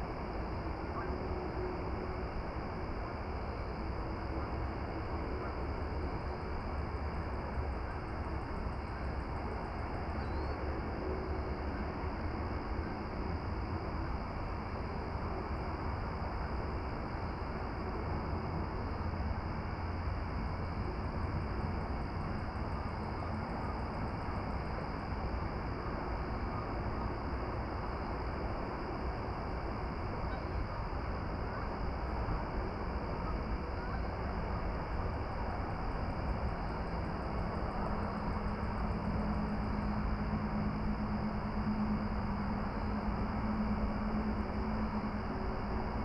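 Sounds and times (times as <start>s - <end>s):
engine drone: 4.2s - 46.0s.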